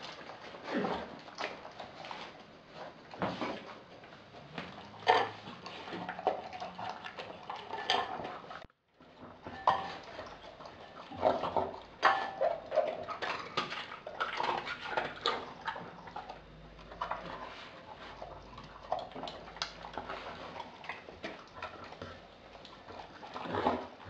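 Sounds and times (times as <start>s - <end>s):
dog chewing and slurping: 0.0s - 24.0s.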